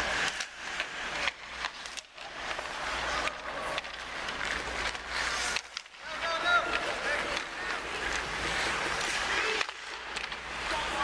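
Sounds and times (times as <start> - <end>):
skates scraping on ice: 0.0 - 11.0
sticks and puck clacking: 0.0 - 11.0.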